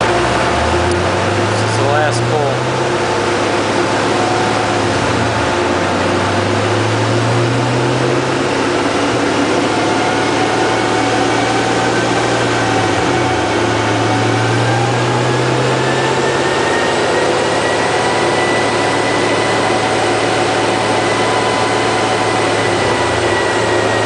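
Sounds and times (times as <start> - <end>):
car engine running at low revs: 0.0 - 24.0
faint rising whine: 0.0 - 24.0.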